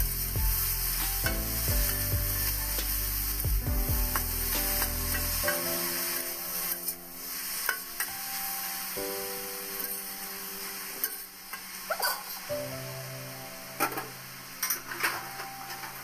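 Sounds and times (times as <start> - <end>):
background music with held notes: 0.0 - 16.0
greens sizzling in hot oil: 0.0 - 16.0.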